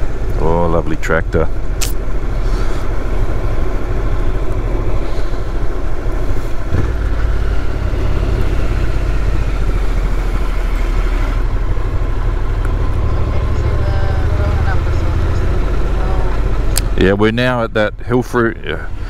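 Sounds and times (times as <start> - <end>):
motorcycle engine running: 0.0 - 18.8
wind and road noise: 0.0 - 19.0.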